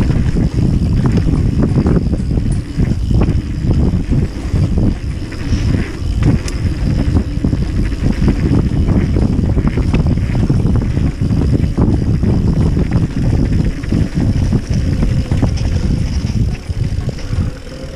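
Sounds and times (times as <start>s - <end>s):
bike rattling and knocking: 0.0s - 17.9s
tyres rolling over dirt: 0.0s - 17.9s
wind rumbling on microphone: 0.0s - 17.9s.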